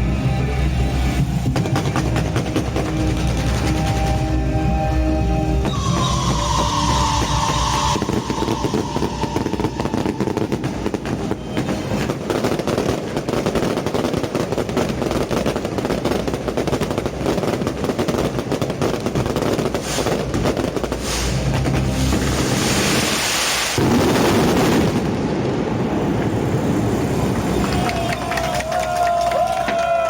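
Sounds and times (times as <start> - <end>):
fireworks crackling bangs: 0.9 - 30.0.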